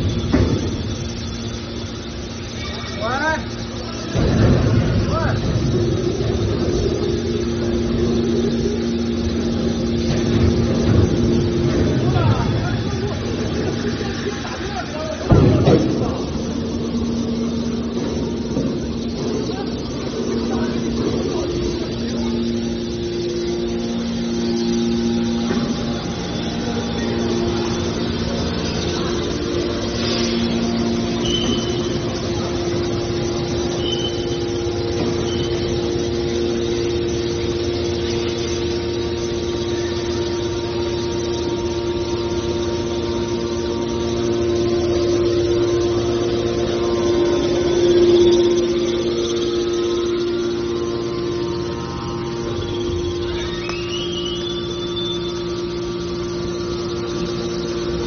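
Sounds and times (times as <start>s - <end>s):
baler motor and pump humming: 0.0s - 58.0s.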